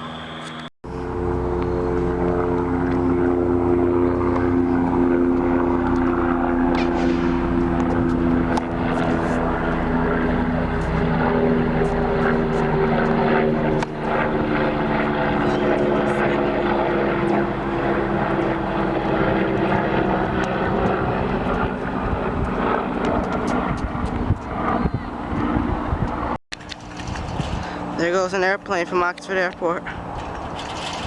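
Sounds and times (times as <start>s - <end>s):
propeller airplane droning: 0.0s - 31.0s.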